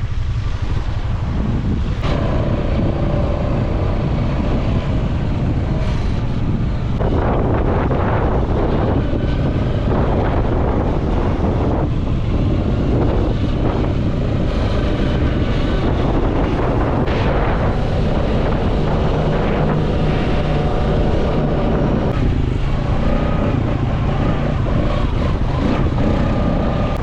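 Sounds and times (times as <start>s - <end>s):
quad bike engine running: 0.0s - 27.0s
wind buffeting microphone: 0.0s - 27.0s.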